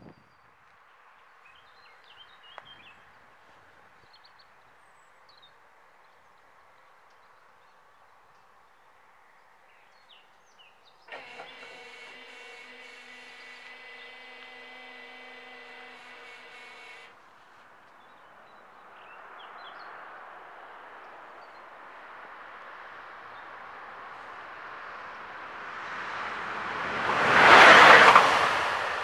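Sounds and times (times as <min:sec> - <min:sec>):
faint outdoor background: 0:00.0 - 0:29.0.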